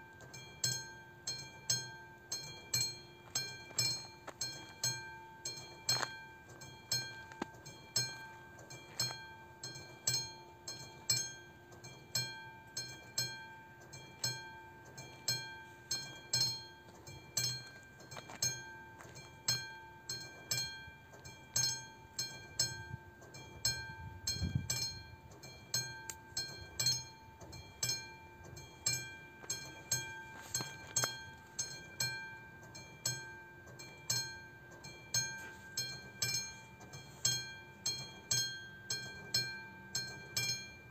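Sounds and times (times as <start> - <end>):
level crossing warning bell: 0.0 - 40.9.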